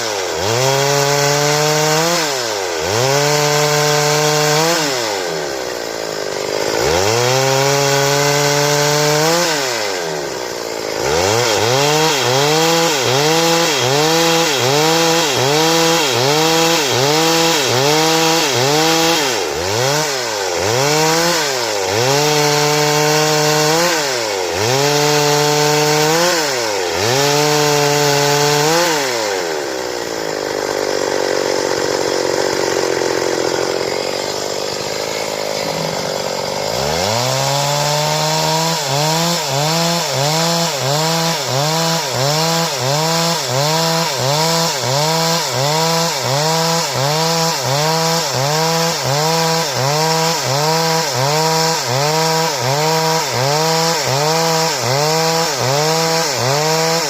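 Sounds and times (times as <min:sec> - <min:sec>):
chainsaw engine revving: 0:00.0 - 0:57.0.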